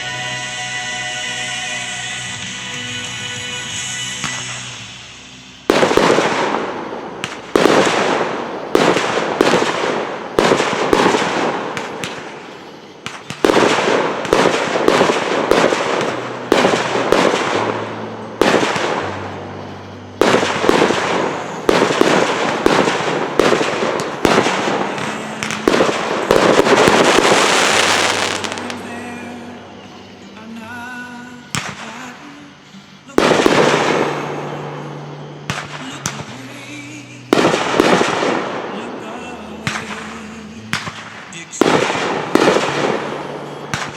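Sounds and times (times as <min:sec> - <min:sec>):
crackling firework bursts: 0:00.0 - 0:43.9
firework shell bursts: 0:03.6 - 0:30.2, 0:33.2 - 0:43.9.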